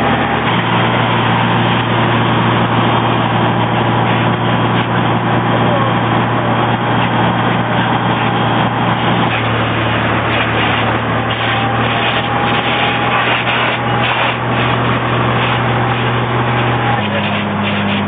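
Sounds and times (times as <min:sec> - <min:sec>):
fire engine motor running: 0:00.0 - 0:18.0.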